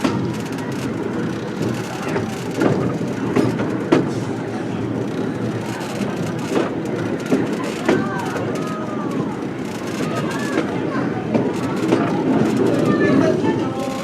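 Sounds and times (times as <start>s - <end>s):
train rumbling: 0.0s - 14.0s
wheels knocking on rails: 0.0s - 14.0s.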